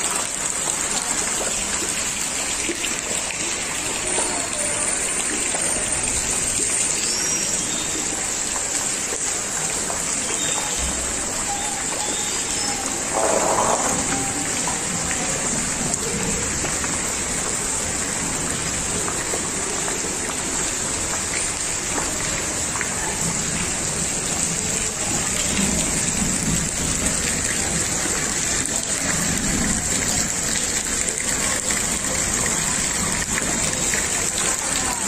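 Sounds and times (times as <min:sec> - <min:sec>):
floodwater flowing: 0:00.0 - 0:35.0
heavy rain: 0:00.0 - 0:35.0.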